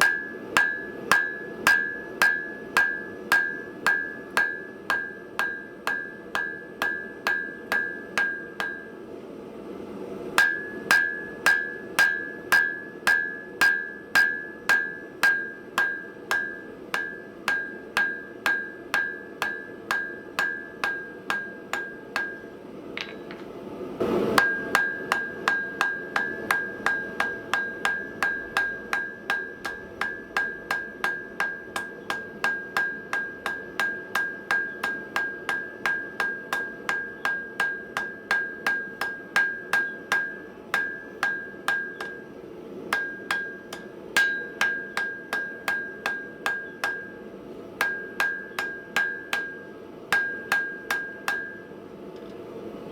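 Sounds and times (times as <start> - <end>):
hammer striking steel on anvil: 0.0 - 9.0, 10.4 - 23.5, 24.2 - 51.8.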